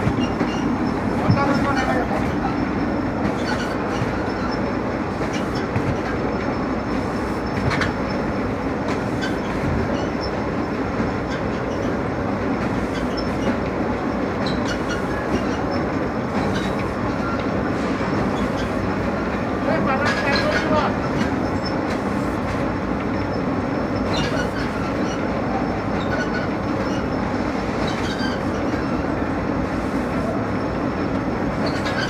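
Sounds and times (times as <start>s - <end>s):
conveyor rumbling and rattling: 0.0s - 32.0s.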